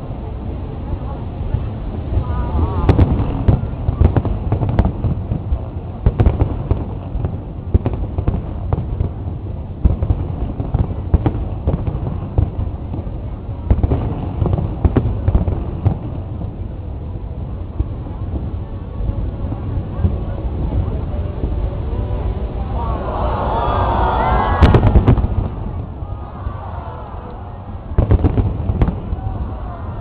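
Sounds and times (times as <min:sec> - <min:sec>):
continuous low rumble: 0:00.0 - 0:30.0.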